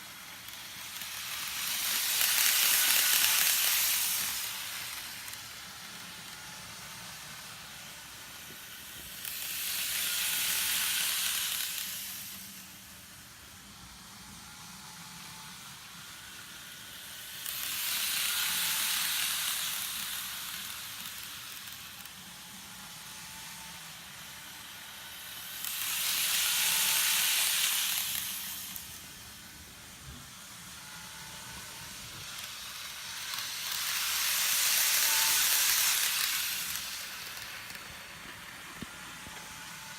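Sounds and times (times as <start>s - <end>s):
faint motor whine: 0.0s - 39.9s
model train wheels hissing on rail: 0.0s - 39.9s.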